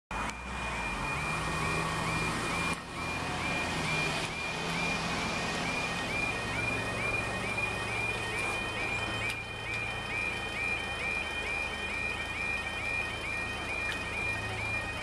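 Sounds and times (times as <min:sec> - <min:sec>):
level crossing alarm yelping: 0:00.5 - 0:15.0.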